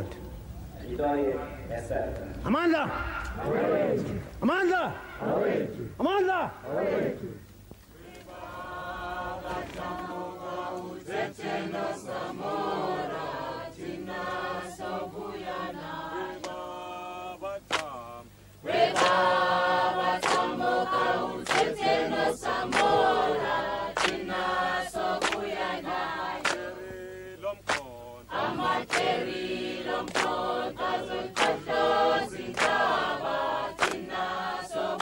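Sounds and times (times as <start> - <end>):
choir singing unaccompanied: 0.0 - 35.0.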